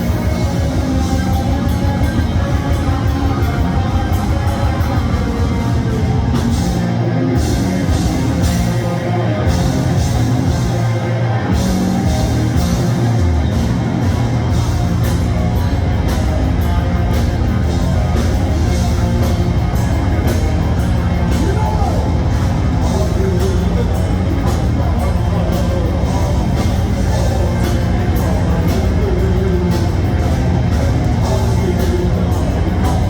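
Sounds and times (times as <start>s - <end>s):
bass: 0.0s - 33.0s
distorted guitars: 0.0s - 33.0s.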